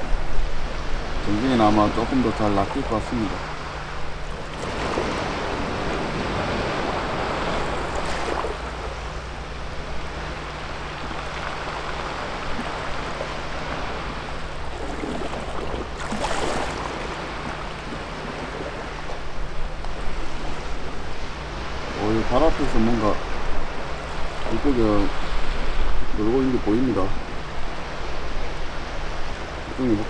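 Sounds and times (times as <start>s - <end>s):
sea waves against rocky shore: 0.0s - 30.0s.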